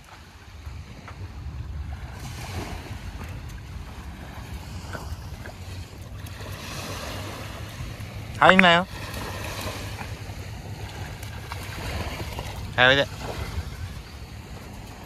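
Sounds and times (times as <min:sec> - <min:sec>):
waves washing onto shore: 0:00.0 - 0:15.0
wind rumbling on microphone: 0:00.0 - 0:15.0.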